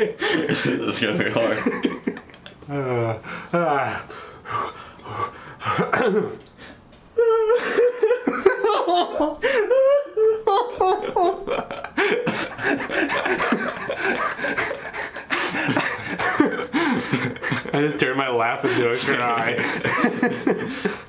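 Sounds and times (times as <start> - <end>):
men laughing: 0.0 - 6.4, 7.2 - 21.0.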